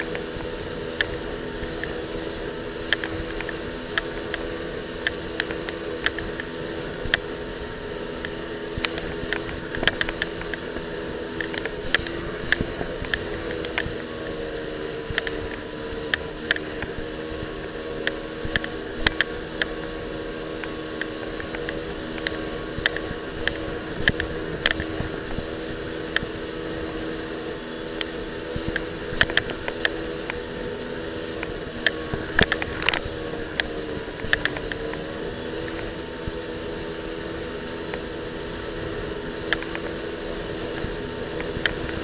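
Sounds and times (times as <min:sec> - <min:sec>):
jet ski engine running: 0:00.0 - 0:42.0.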